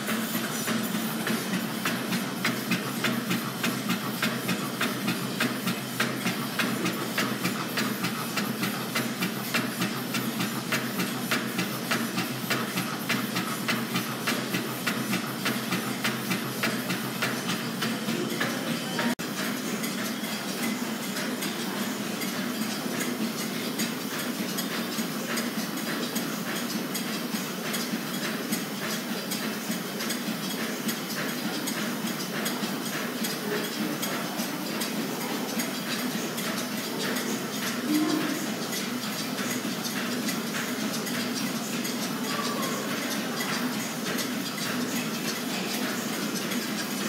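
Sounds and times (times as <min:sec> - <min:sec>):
model steam engine clatter: 0:00.0 - 0:47.0.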